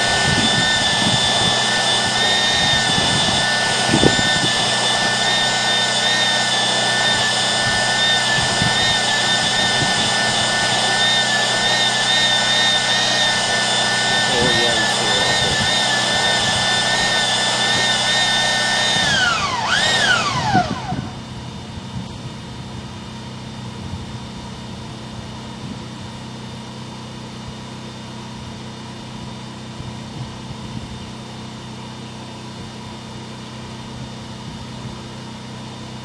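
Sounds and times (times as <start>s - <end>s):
drain cleaning machine whine: 0.0s - 36.0s.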